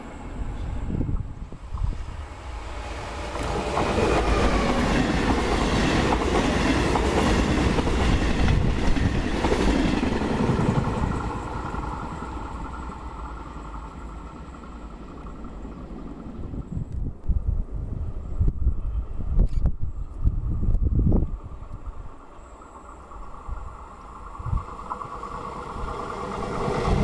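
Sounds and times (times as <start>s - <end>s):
train passing at speed: 0.0s - 19.3s, 20.2s - 27.0s.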